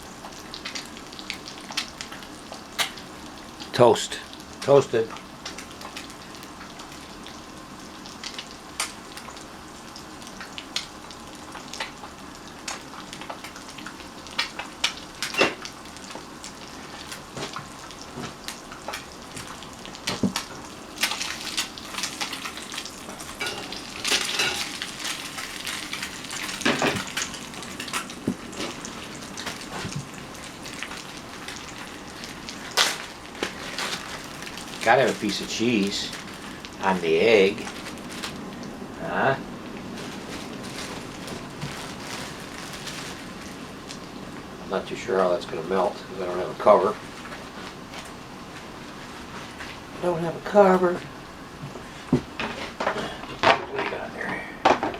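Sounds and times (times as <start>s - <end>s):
egg sizzling in a pan: 0.0s - 53.5s.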